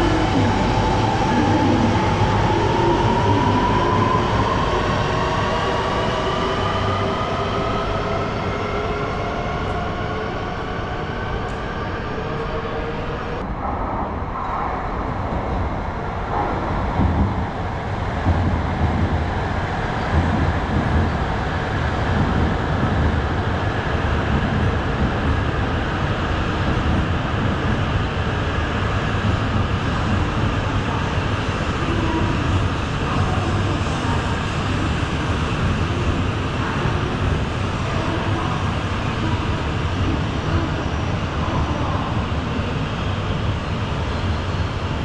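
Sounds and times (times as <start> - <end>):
train rumbling and rushing: 0.0 - 45.0.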